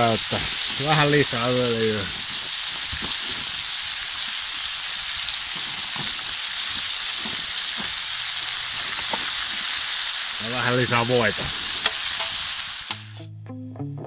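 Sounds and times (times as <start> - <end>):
vegetables sizzling in a pan: 0.0 - 13.2.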